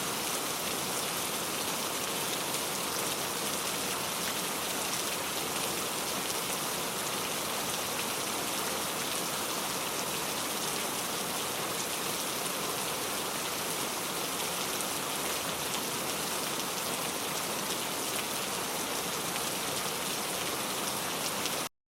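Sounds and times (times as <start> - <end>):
heavy rain on hard surface: 0.0 - 21.7.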